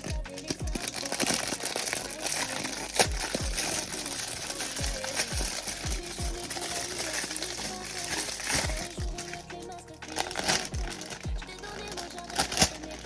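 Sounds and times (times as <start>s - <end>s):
music with deep bass beat: 0.0s - 13.0s
plastic packaging crinkling: 0.0s - 13.0s
sharp crackle: 0.0s - 13.0s.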